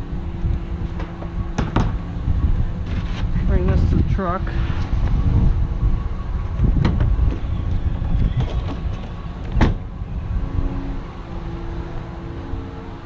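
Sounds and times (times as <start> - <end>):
steady low hum: 0.0 - 13.0
wind on microphone: 0.0 - 13.0.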